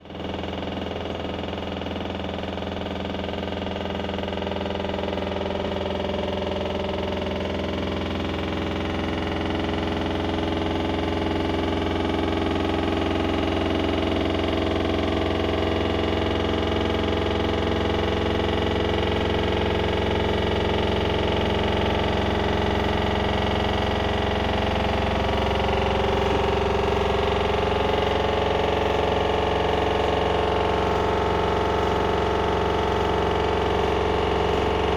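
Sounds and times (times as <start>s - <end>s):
washer-dryer spinning: 0.0s - 34.9s.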